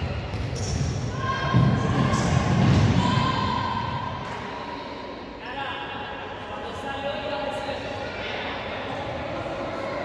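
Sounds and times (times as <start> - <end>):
voices shouting in echoing hall: 0.0 - 10.0.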